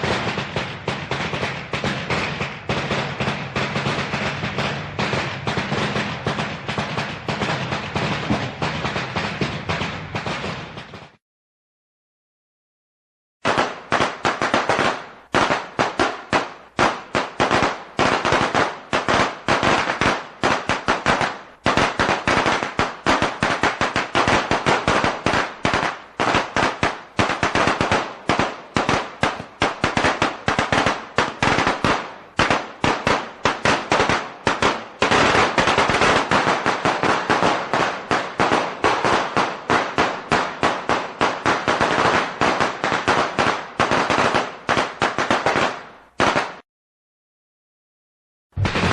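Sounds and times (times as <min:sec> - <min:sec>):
firecrackers crackling: 0:00.0 - 0:11.2, 0:13.4 - 0:46.6, 0:48.6 - 0:48.9.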